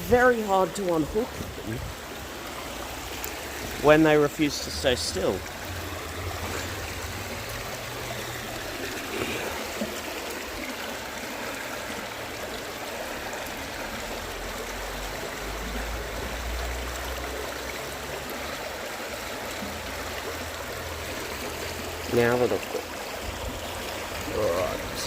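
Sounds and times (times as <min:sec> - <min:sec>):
stream flowing: 0:00.0 - 0:25.0.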